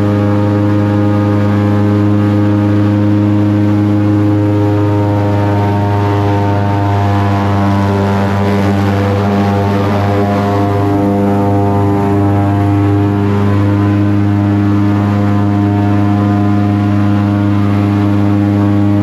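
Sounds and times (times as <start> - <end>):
airboat engine and propeller: 0.0 - 19.0.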